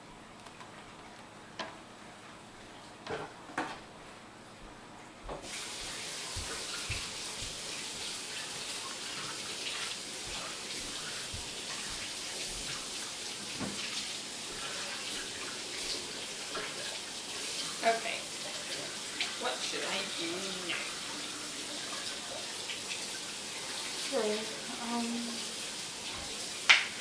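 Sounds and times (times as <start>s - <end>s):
kitchen tap running: 5.3s - 27.0s.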